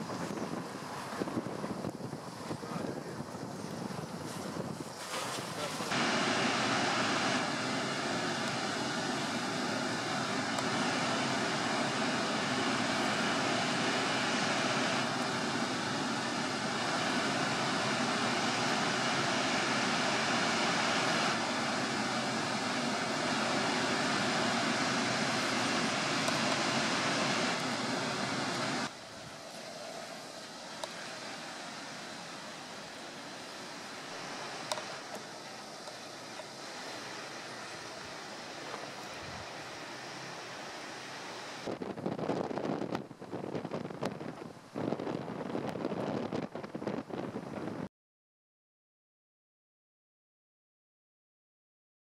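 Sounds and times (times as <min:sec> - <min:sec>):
rushing floodwater roar: 0:00.0 - 0:41.8.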